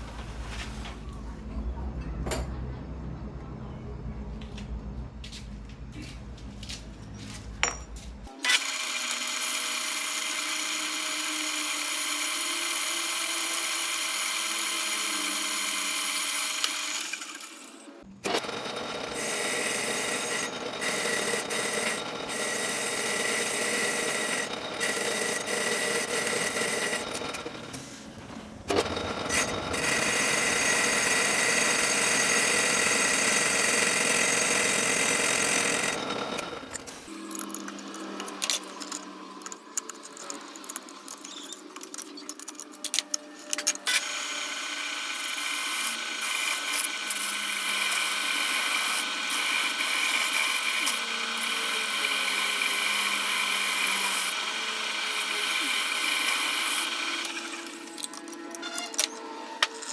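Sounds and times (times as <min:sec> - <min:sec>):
power tool whining: 0:08.3 - 0:40.0, 0:43.6 - 0:59.9.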